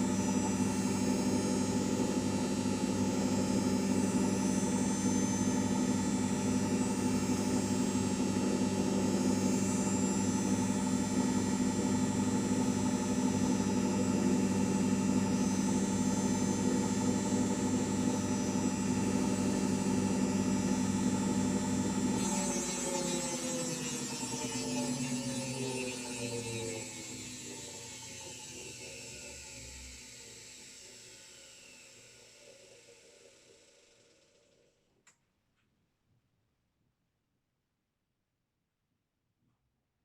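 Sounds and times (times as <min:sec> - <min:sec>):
washing machine spinning: 0:00.1 - 0:34.4.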